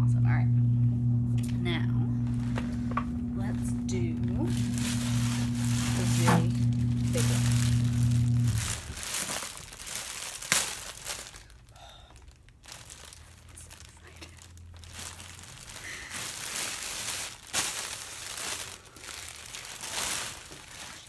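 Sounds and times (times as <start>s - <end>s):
plastic bag crinkling: 2.2s - 21.0s.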